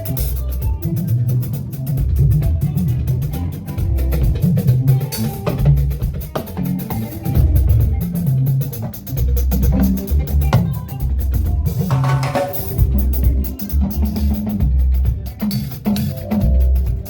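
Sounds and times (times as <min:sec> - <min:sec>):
band music with drum kit: 0:00.0 - 0:17.0.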